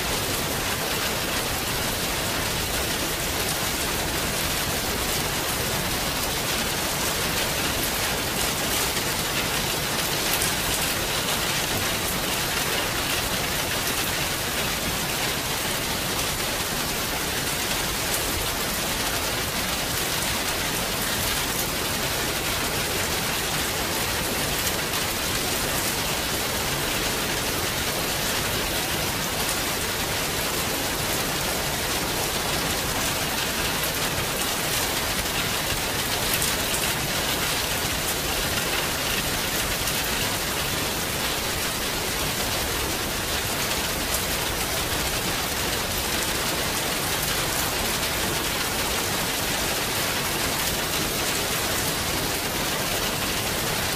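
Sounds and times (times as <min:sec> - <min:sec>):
rain falling steadily: 0:00.0 - 0:53.9.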